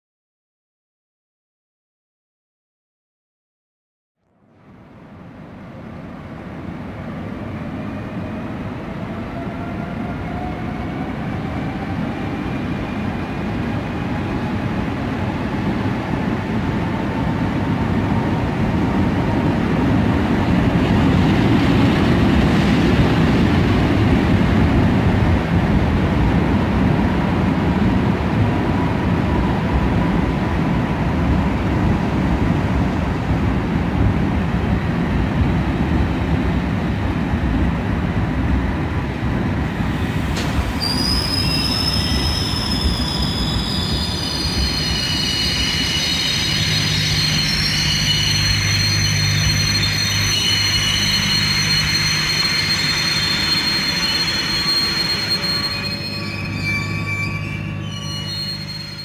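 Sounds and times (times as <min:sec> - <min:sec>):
electric locomotive rumbling past: 0:04.5 - 0:59.0
passenger coaches rolling by: 0:04.6 - 0:59.0.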